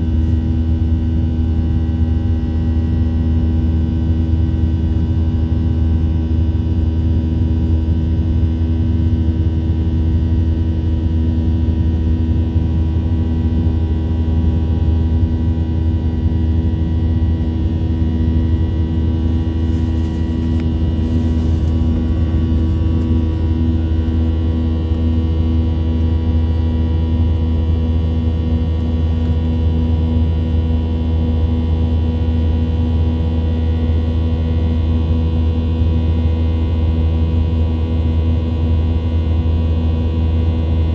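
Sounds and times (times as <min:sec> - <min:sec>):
steady tonal hum: 0:00.0 - 0:39.8
airplane cabin engine drone: 0:00.0 - 0:40.9.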